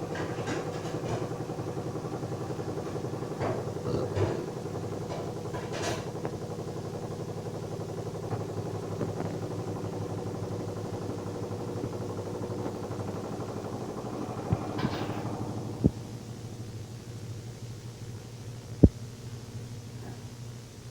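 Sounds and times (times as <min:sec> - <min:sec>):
washing machine motor hum: 0:00.0 - 0:20.9.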